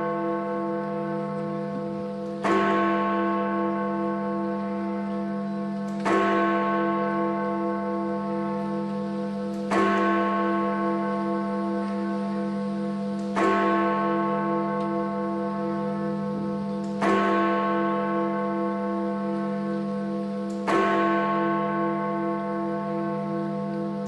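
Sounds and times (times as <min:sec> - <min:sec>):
large bell striking: 0:00.0 - 0:24.0.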